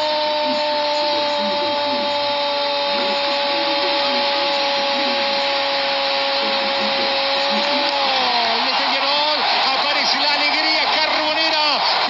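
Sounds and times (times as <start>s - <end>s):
stadium crowd cheering: 0.0s - 12.0s
commentator shouting: 0.1s - 12.0s.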